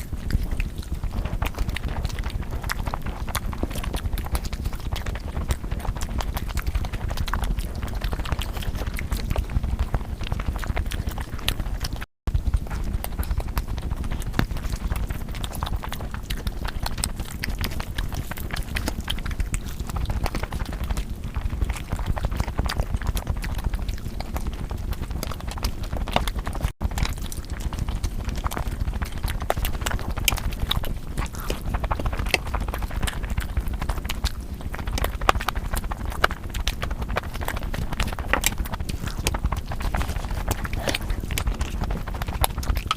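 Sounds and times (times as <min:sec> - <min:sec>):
chewing with mouth smacks: 0:00.0 - 0:42.9.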